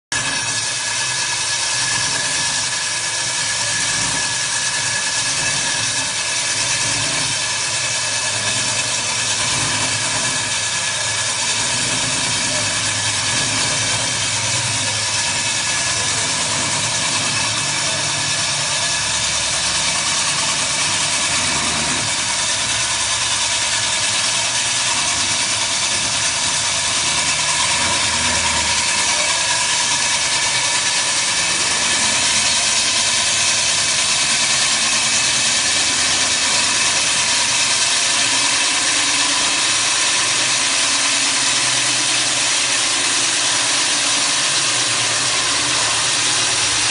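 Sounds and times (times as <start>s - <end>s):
core drill cutting concrete: 0.1s - 46.9s.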